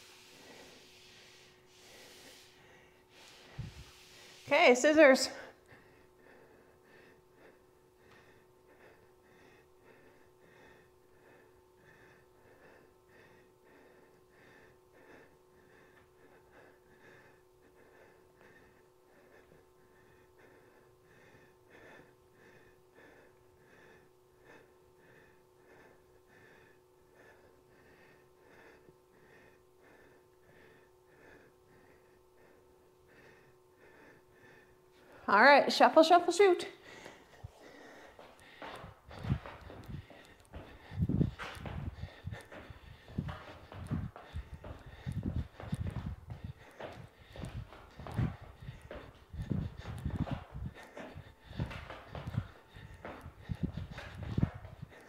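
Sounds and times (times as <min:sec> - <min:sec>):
woman breathing quickly: 0:00.0 - 0:35.6, 0:36.4 - 0:55.0
faint steady hum: 0:00.0 - 0:55.0.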